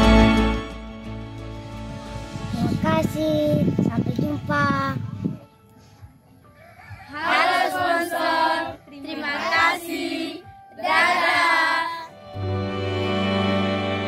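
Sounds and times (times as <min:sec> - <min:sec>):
instrumental music with held notes: 0:00.0 - 0:14.0.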